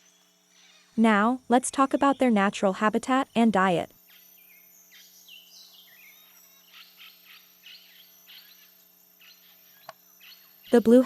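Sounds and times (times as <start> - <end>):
irregular chirping calls: 0.0 - 11.0.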